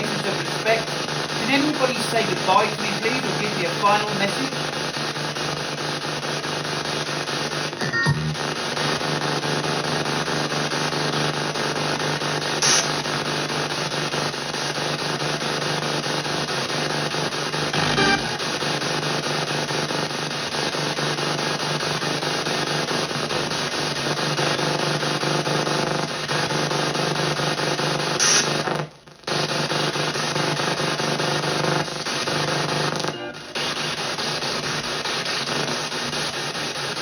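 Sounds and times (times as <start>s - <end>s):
snatches of broadcast sound: 0.0s - 15.5s, 16.4s - 22.1s, 27.9s - 37.0s
choppy radio static: 0.0s - 37.0s.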